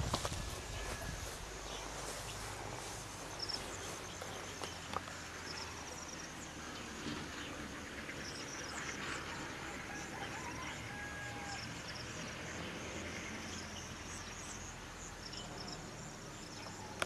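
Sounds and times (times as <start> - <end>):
insects trilling: 0.1 - 17.0.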